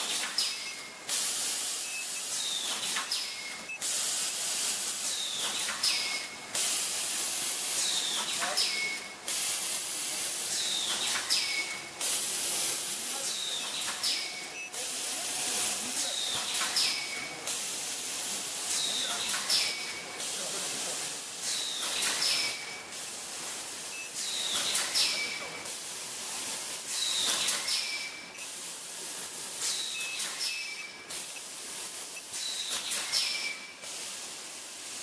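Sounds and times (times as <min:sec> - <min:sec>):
bag-making machine hiss: 0:00.0 - 0:35.0.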